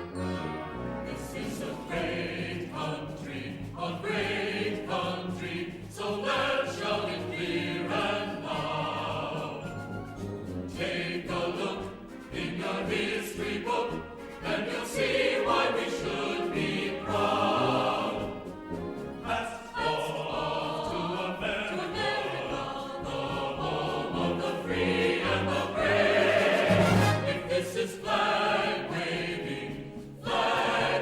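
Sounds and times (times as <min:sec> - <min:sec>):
choir singing: 0:00.0 - 0:31.0
orchestral music: 0:00.0 - 0:31.0.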